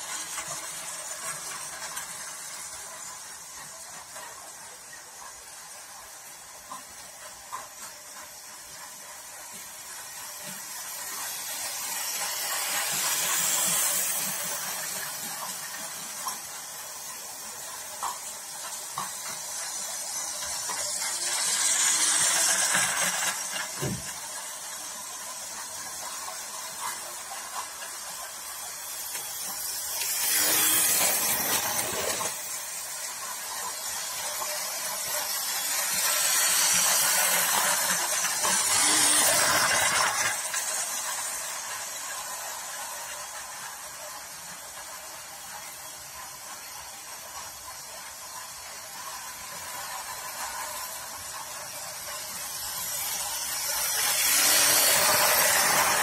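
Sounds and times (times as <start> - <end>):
model trains rolling whirr: 0.0 - 56.0.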